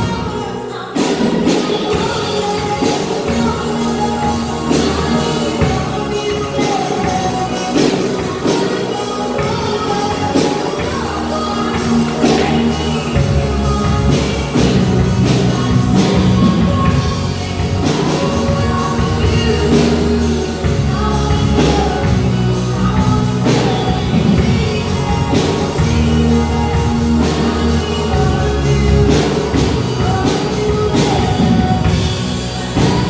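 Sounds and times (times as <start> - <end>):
drum kit beating: 0.0 - 33.0
electric guitars: 0.0 - 33.0
keyboard: 0.0 - 33.0
lead vocal singing: 0.0 - 33.0.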